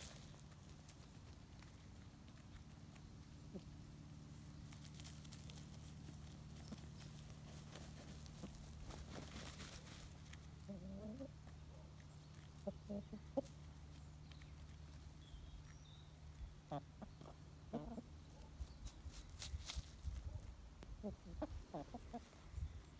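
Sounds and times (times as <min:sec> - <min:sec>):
chicken clucking: 0:00.0 - 0:19.2, 0:20.9 - 0:22.6
scratching in dry soil: 0:00.0 - 0:22.9.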